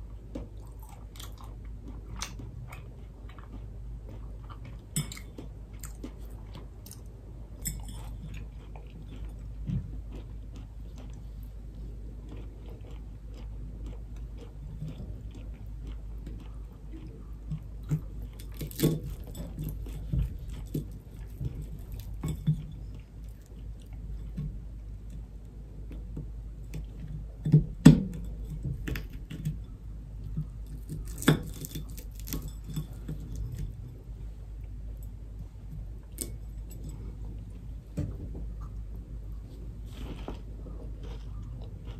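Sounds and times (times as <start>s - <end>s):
chewing crunchy pie crust: 0.0s - 41.9s.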